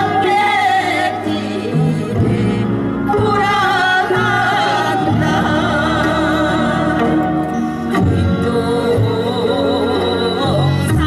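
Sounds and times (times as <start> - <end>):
traditional music with singing: 0.0 - 11.0.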